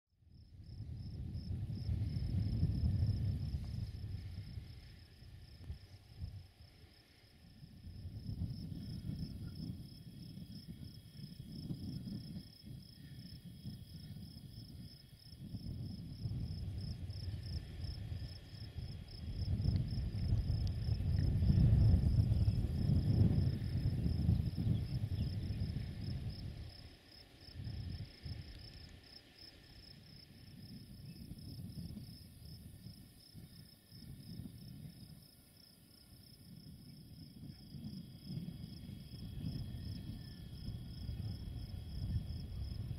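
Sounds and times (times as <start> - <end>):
crickets chirring: 0.3 - 42.9.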